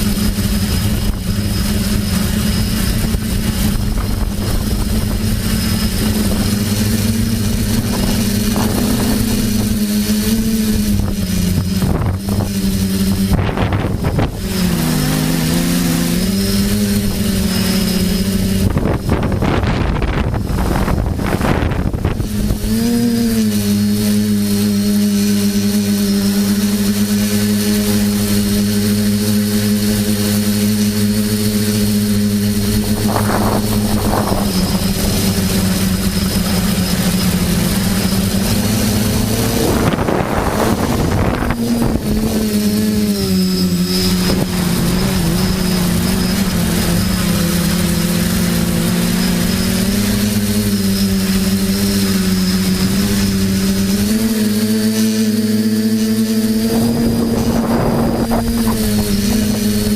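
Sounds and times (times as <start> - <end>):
gusty wind rushes: 0.0 - 29.2, 29.9 - 59.9
quadcopter propellers whirring: 0.0 - 59.9.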